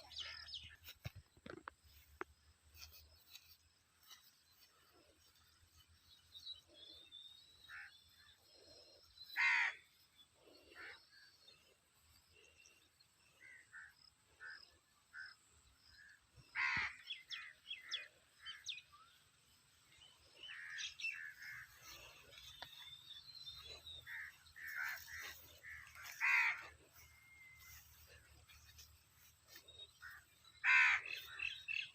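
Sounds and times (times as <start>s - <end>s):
birds calling and chirping: 0.0s - 31.9s.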